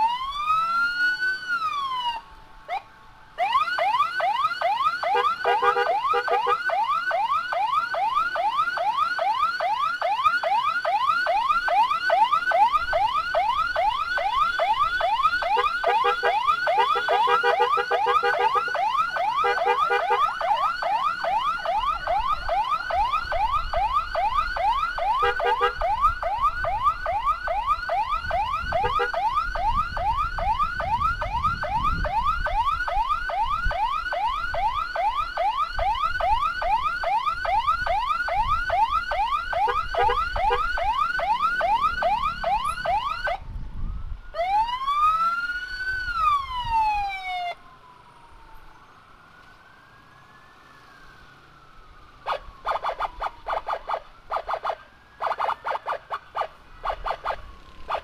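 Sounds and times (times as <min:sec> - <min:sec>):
electronic siren yelping: 0:00.0 - 0:47.7, 0:51.4 - 0:58.0
low pulsing siren tone: 0:00.0 - 0:58.0
siren rising wail: 0:00.0 - 0:58.0.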